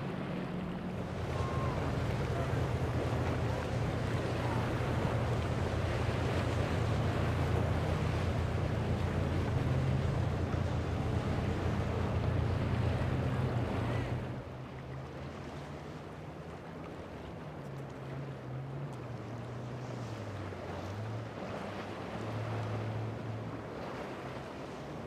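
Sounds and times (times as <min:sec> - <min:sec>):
boat engines humming: 0:00.0 - 0:25.0
outboard motors humming: 0:00.0 - 0:25.0
rush of boat wake: 0:00.0 - 0:25.0.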